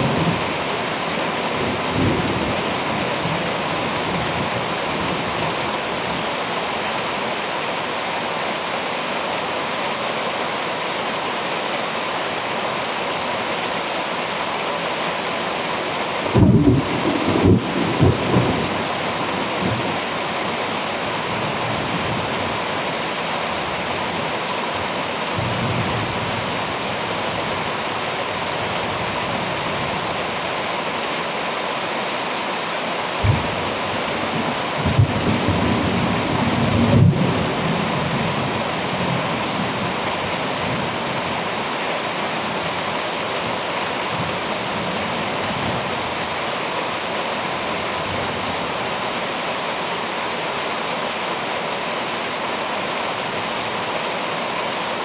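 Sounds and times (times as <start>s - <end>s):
heavy rain on leaves: 0.0s - 55.0s.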